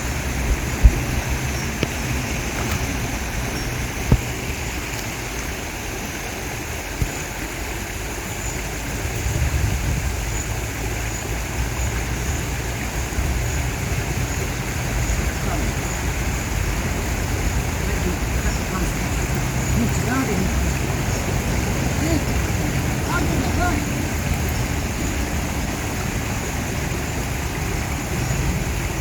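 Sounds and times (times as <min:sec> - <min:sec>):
river water running: 0:00.0 - 0:29.0.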